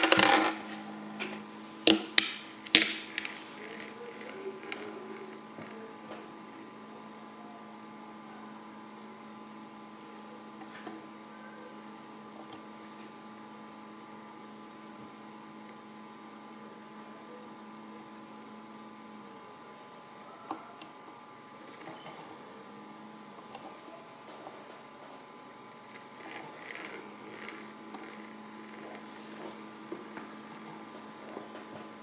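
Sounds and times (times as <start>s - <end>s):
magnetic stirrer humming: 0.0s - 32.0s.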